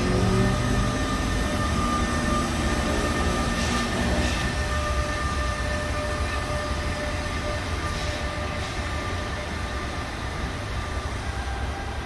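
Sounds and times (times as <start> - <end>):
locomotive whine: 0.0 - 12.0
train low rumble: 0.0 - 12.0.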